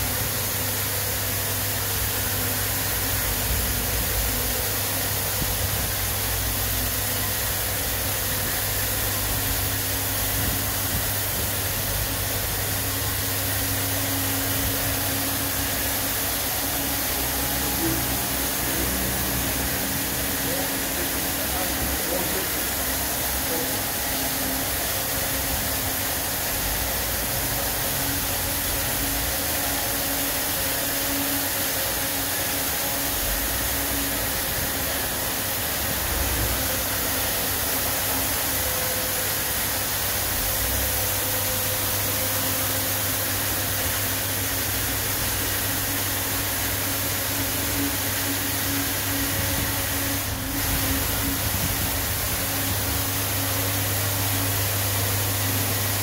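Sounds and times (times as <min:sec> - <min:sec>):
high-pressure water spray hissing: 0:00.0 - 0:56.0
pump motor hum: 0:00.0 - 0:56.0.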